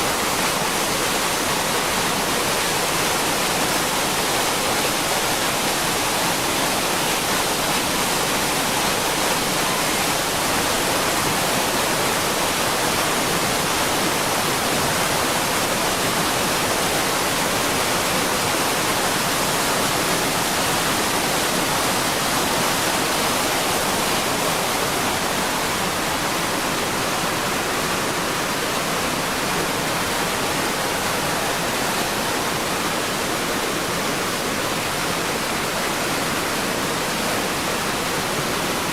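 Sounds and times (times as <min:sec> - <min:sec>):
floodwater torrent roaring: 0:00.0 - 0:38.9.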